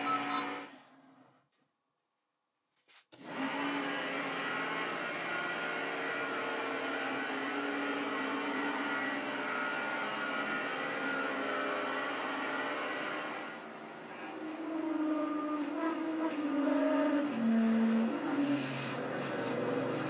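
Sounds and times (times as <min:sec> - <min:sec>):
lathe motor and gears whining: 0:03.2 - 0:20.0.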